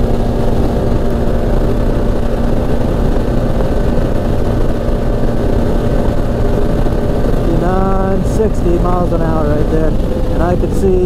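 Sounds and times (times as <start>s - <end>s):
engine running at high speed: 0.0s - 11.0s
wind and road noise: 0.0s - 11.0s.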